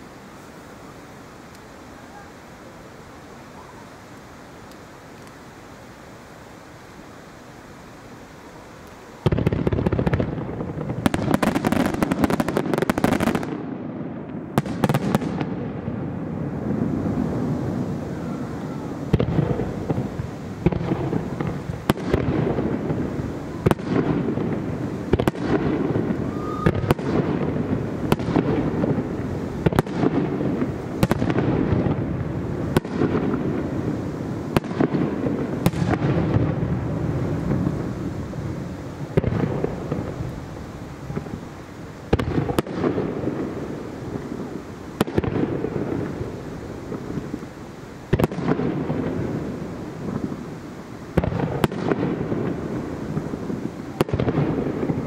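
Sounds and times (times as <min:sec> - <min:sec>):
rolling din of fireworks: 0:00.0 - 0:55.0.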